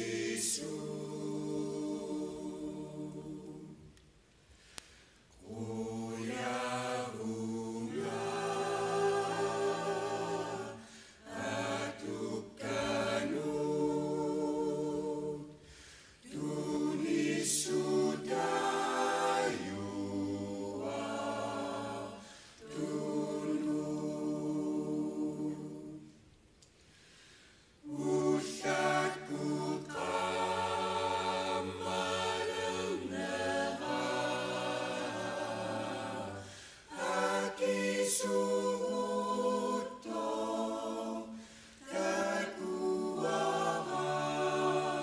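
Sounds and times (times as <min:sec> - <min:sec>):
choir singing unaccompanied: 0:00.0 - 0:04.0, 0:05.4 - 0:26.2, 0:27.8 - 0:45.0.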